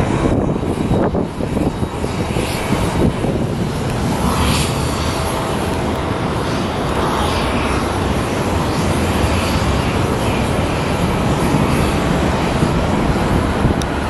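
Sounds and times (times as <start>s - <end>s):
airliner engine noise: 0.0s - 14.0s.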